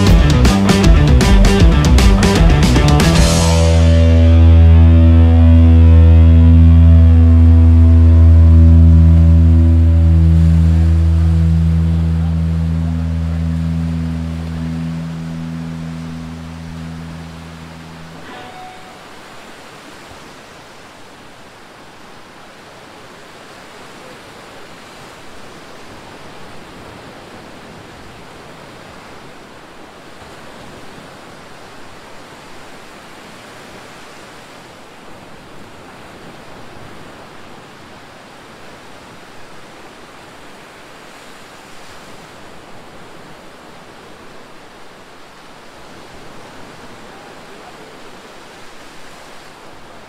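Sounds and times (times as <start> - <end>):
surf breaking on beach: 0.0 - 50.0.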